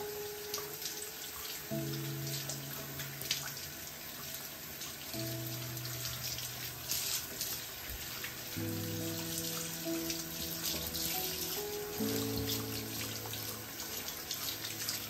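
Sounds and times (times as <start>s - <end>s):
music with slow held chords: 0.0s - 15.0s
tap water running into sink: 0.0s - 15.0s.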